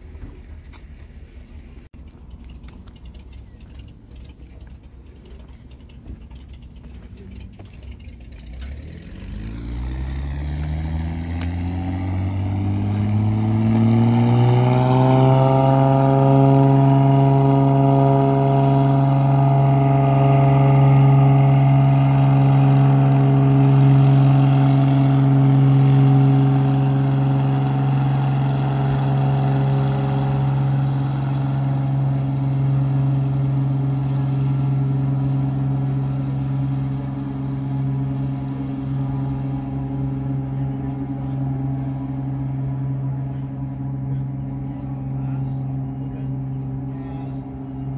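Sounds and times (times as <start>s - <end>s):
large engine winding up: 2.5s - 47.9s.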